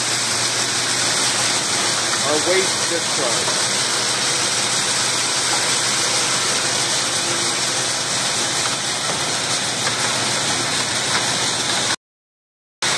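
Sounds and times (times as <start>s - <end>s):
separator machine rushing noise: 0.0s - 12.0s.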